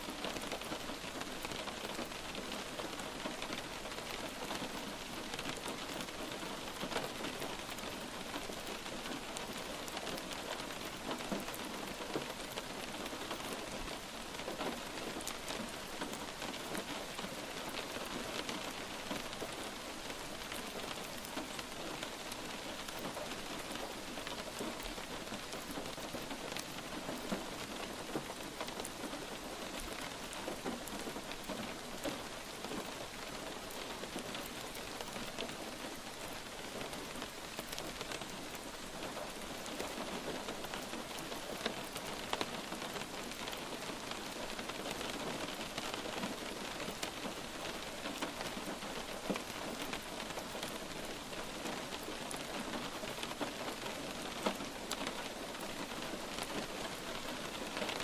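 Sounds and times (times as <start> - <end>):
light rain falling: 0.0 - 58.0
raindrops pattering: 0.0 - 58.0.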